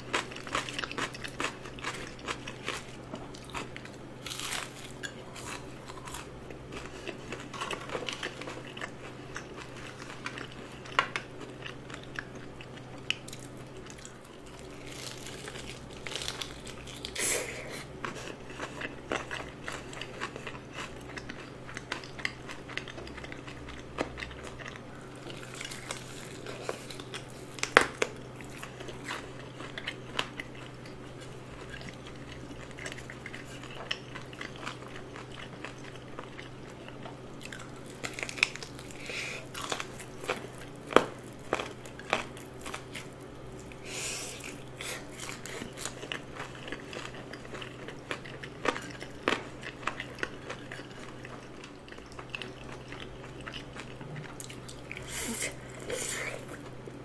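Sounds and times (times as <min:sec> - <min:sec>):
wet chewing: 0:00.0 - 0:56.8
crunching fried chicken: 0:00.0 - 0:57.0.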